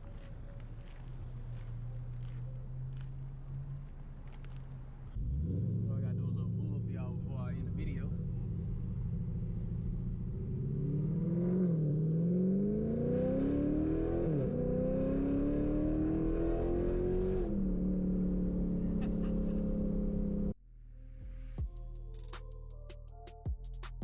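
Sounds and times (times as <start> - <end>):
car engine accelerating: 0.0 - 20.6.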